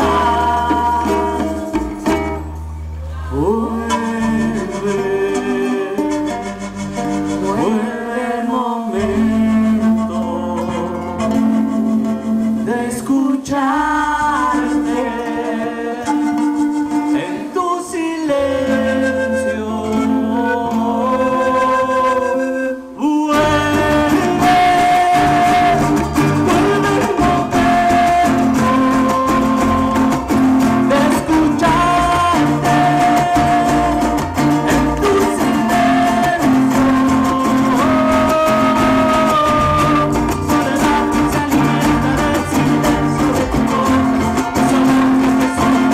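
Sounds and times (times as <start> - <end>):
guitar-led music: 0.0 - 45.9.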